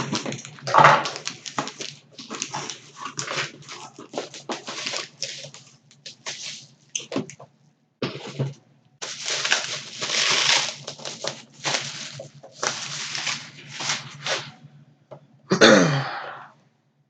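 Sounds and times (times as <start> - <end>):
packaging rustling and crinkling: 0.0 - 7.4, 8.0 - 14.6.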